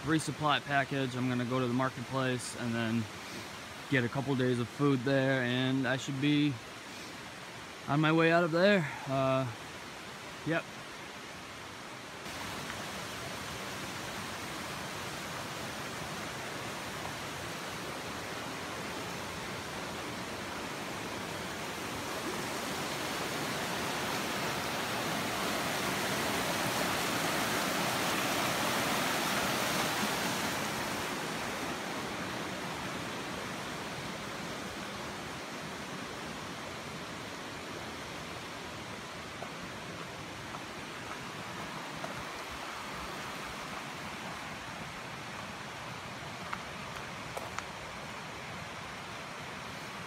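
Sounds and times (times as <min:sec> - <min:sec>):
stream water rushing: 0:00.0 - 0:50.0.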